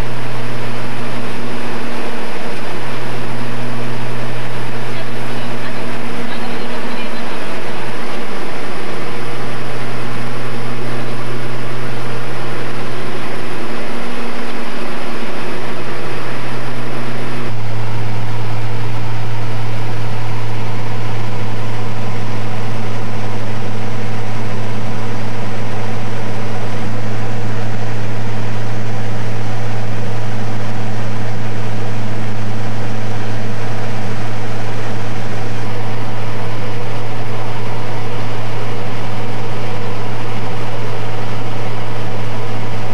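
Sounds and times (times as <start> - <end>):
propeller engine drone: 0.0 - 42.9.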